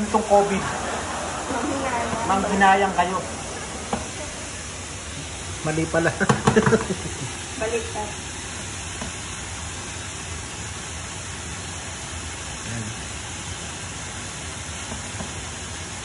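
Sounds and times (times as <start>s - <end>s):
vegetables sizzling in skillet: 0.2s - 16.0s.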